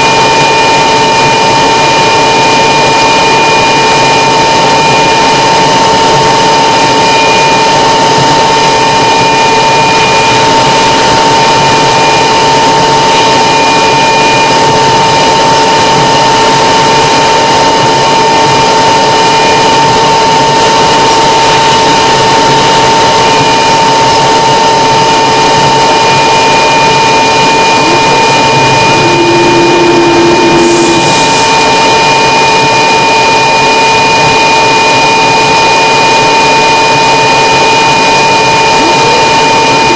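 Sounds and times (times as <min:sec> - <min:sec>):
light aircraft engine and propeller: 0:00.0 - 0:39.9
rushing noise of rolling plane: 0:00.0 - 0:39.9.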